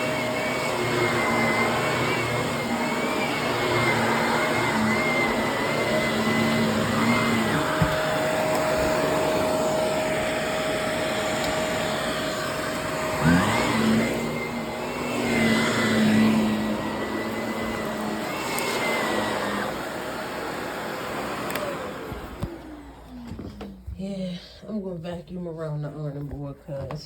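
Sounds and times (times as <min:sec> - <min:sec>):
vacuum cleaner running: 0:00.0 - 0:24.2.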